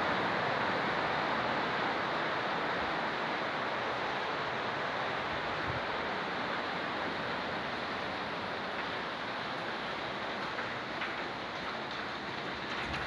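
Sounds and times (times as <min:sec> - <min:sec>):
heavy rain hiss: 0:00.0 - 0:13.0.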